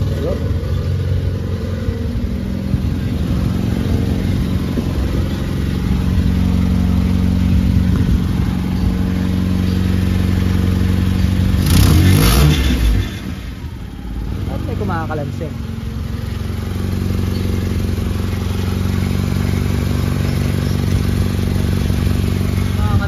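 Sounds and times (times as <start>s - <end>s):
car engine running: 0.0s - 23.0s
engine revving: 0.0s - 23.0s
exhaust clattering: 0.0s - 23.0s.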